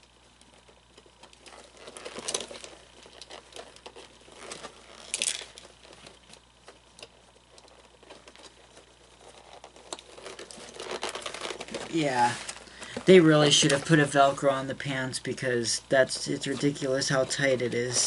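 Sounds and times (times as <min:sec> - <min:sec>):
cloth rustling: 0:00.0 - 0:14.5.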